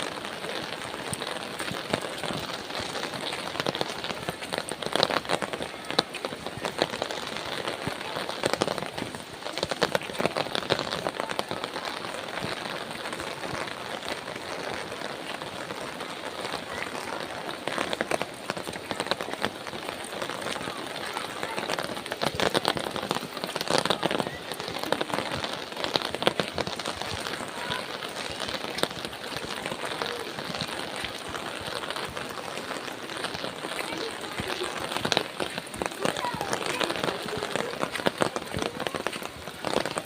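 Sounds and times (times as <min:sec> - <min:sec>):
rain pattering on a surface: 0:00.0 - 0:40.0.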